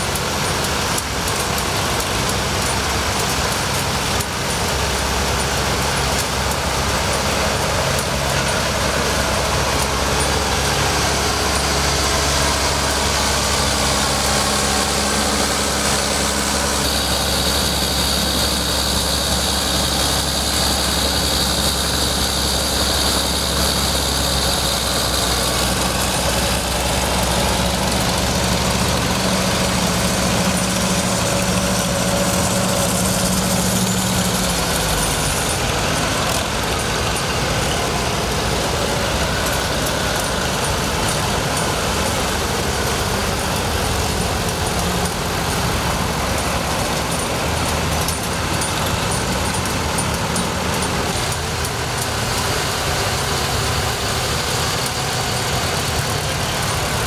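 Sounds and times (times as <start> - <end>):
tractor engines running slowly: 0.0 - 57.0.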